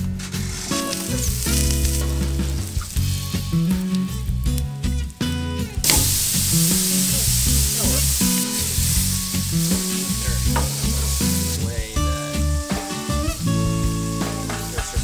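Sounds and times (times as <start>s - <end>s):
burger patties sizzling on griddle: 0.0s - 5.1s, 5.8s - 15.0s
guitar music: 0.0s - 15.0s.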